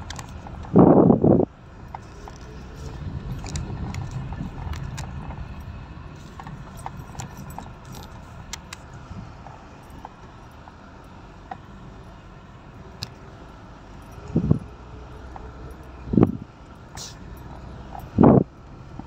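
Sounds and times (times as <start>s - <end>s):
light rattles and clicks: 0.0s - 0.9s, 1.7s - 19.0s
car road rumble: 0.0s - 19.0s.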